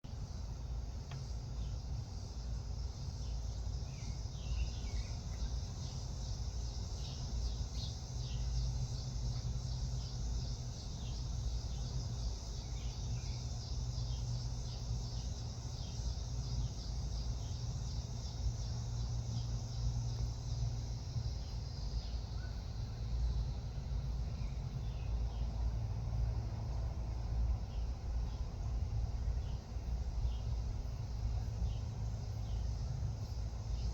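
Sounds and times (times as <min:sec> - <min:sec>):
small birds chirping: 0:00.1 - 0:33.9
insect chirring: 0:01.1 - 0:33.9.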